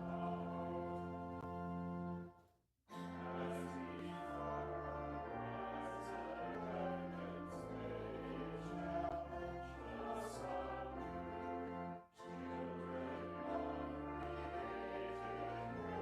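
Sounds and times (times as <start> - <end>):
voices singing a hymn: 0.0 - 2.2, 2.9 - 16.0
organ chords: 0.0 - 2.3, 2.9 - 16.0.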